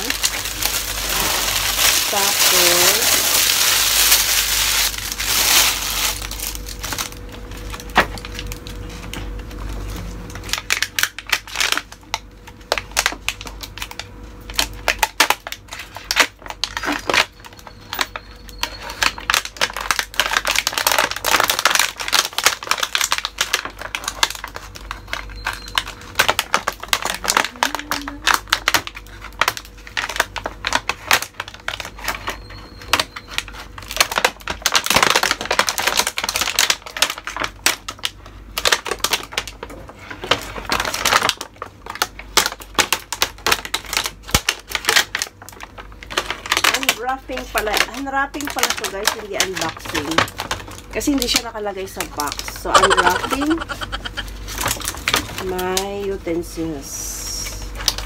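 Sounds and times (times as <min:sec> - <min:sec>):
plastic wrapping crinkling: 0:00.0 - 0:56.1, 0:57.4 - 0:58.0.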